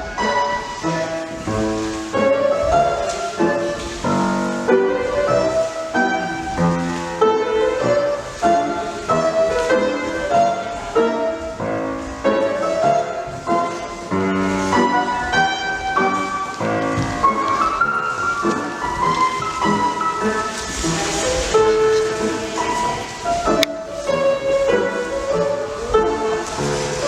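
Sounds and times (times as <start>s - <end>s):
piano music with steady beat: 0.0s - 27.0s.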